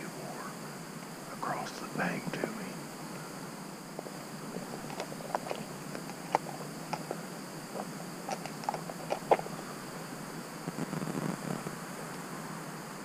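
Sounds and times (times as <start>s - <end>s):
high-pitched insect hum: 0.0s - 13.0s.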